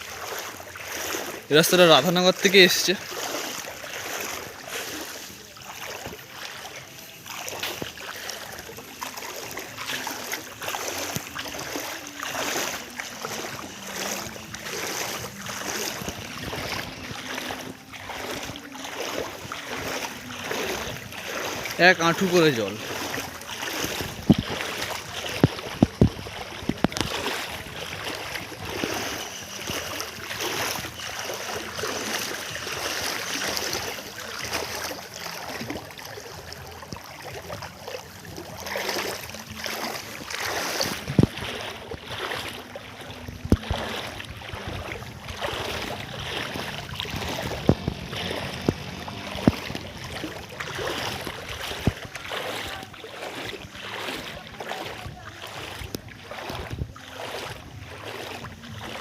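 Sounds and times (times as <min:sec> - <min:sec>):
floodwater sloshing and splashing: 0:00.0 - 0:59.0.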